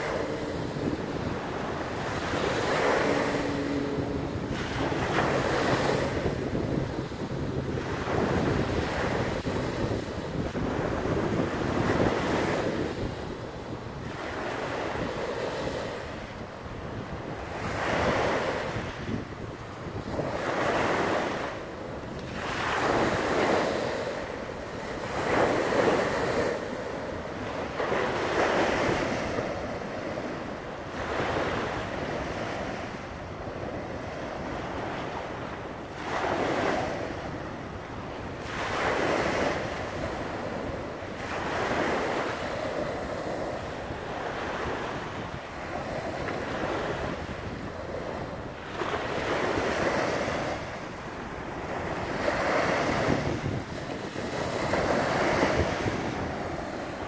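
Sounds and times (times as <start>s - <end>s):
waves breaking on shore: 0.0s - 57.0s
wind buffeting microphone: 0.0s - 57.0s.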